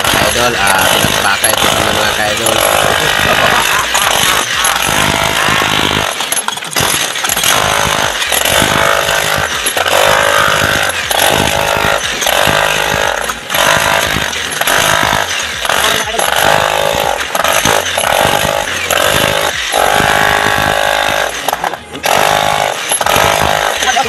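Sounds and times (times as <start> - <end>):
demolition hammer chipping concrete: 0.0 - 24.0.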